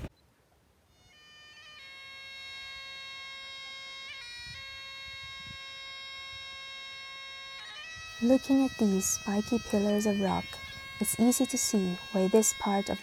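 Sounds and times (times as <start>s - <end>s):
bagpipe chanter melody: 0.9s - 13.0s
bagpipe drone: 0.9s - 13.0s.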